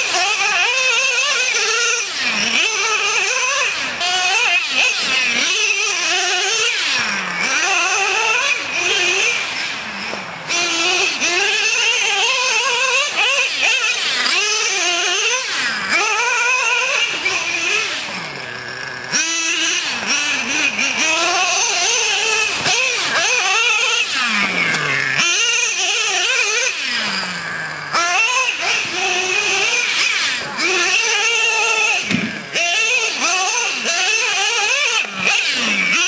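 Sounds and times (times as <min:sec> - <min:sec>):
small nitro engine revving: 0:00.0 - 0:36.0.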